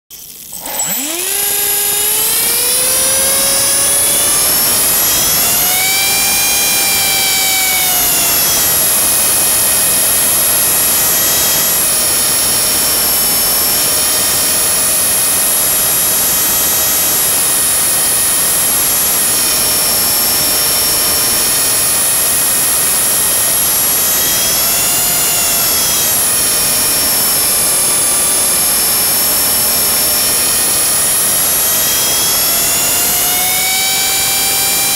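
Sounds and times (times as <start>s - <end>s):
rc helicopter motor whine: 0.1s - 34.9s.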